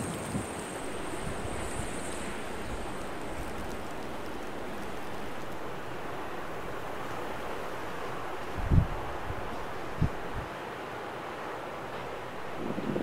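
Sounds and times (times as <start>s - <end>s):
snowstorm wind rushing: 0.0s - 10.5s, 12.0s - 13.0s.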